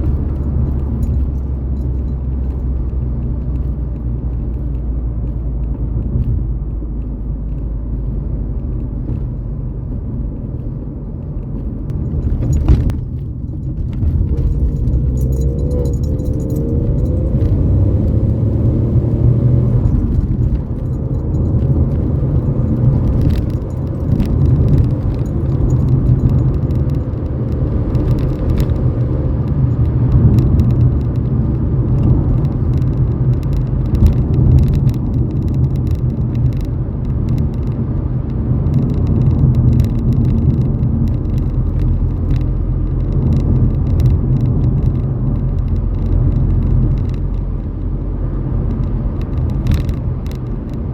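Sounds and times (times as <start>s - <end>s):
light rattles and ticks: 0.0s - 18.7s, 19.7s - 50.9s
car engine and exhaust running: 0.0s - 50.9s.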